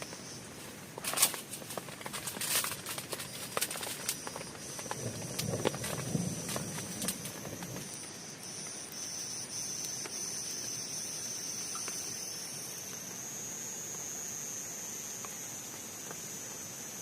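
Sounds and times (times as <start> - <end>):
high-pitched insect trill: 0.0 - 17.0
steady rain hiss: 0.0 - 17.0.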